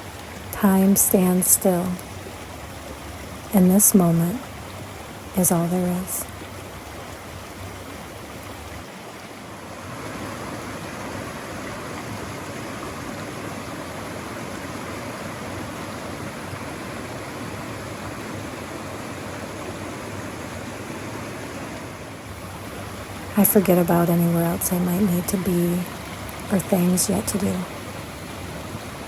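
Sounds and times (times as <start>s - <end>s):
creek rushing over rocks: 0.0s - 29.0s.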